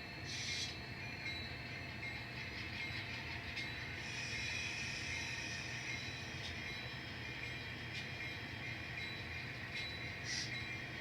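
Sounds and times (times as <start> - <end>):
model train whirring: 1.6 - 11.0.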